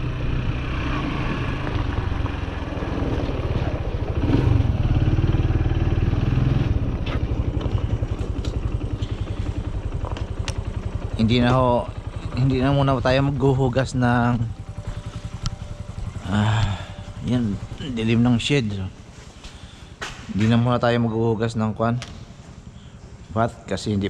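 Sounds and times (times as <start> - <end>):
small farm vehicle engine running: 0.0 - 19.9.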